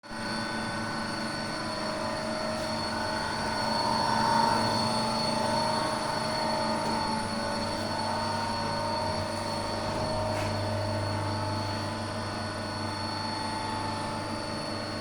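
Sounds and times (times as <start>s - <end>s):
grinder machine hum with whine: 0.0s - 15.0s.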